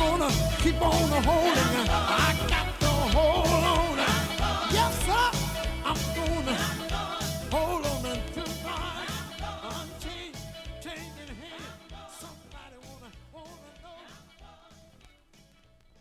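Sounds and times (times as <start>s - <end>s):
gospel song with band: 0.0s - 15.1s.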